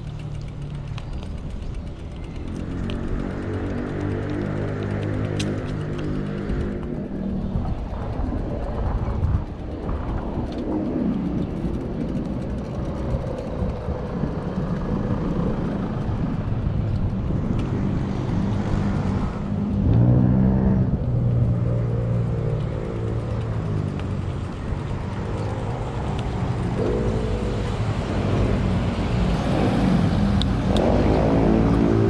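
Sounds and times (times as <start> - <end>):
traffic engines rumbling: 0.0 - 32.0.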